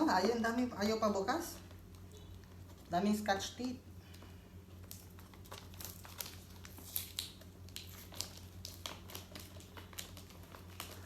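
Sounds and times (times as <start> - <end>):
steady low hum: 0.0 - 11.0
tape and packaging crackling: 0.0 - 11.0.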